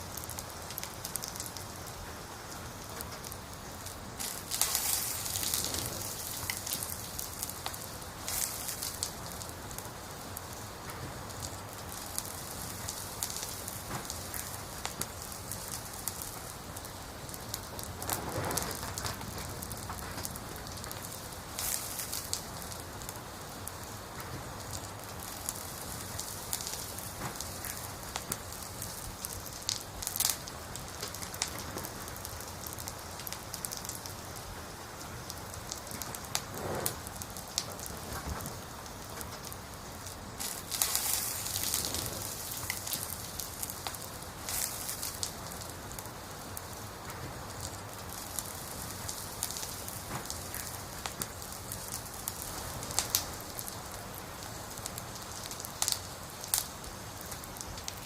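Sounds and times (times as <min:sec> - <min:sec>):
campfire crackling: 0:00.0 - 0:58.0
firewood popping: 0:00.1 - 0:58.0.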